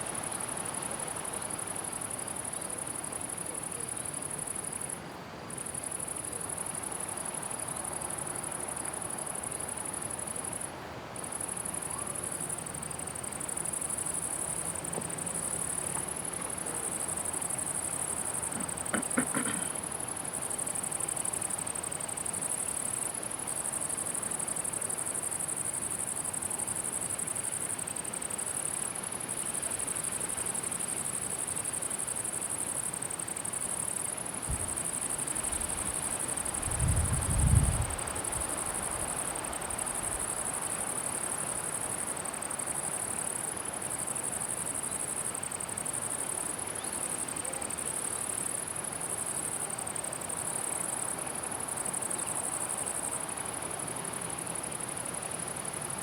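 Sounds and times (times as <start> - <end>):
background hiss: 0.0 - 56.0
crickets chirring: 0.0 - 56.0.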